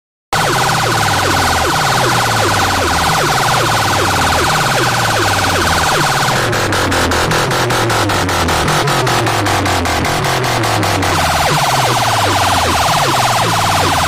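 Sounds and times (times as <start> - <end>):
deep bass line: 0.3 - 14.0
pulsing siren effect: 0.3 - 14.0.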